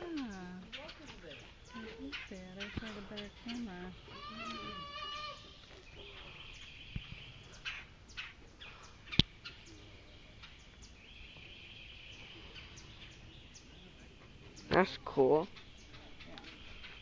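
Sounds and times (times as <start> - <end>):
birds chirping: 0.0 - 17.0
high steady bird trill: 0.0 - 17.0.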